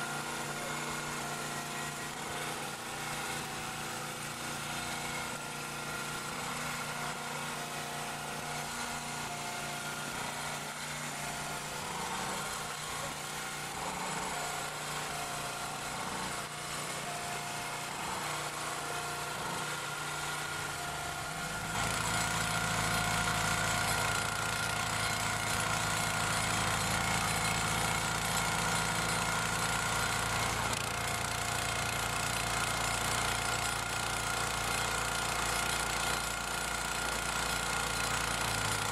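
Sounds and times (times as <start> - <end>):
petrol engine running: 0.0 - 38.9.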